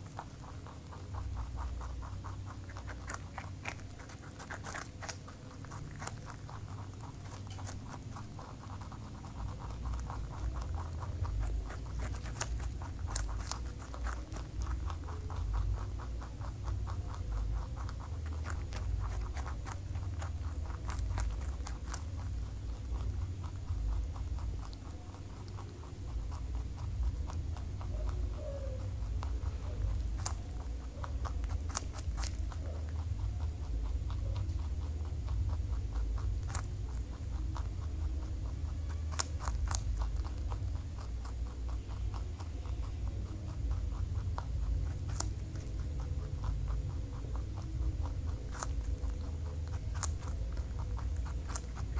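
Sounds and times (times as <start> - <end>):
rabbit chewing vegetables: 0.0 - 51.9.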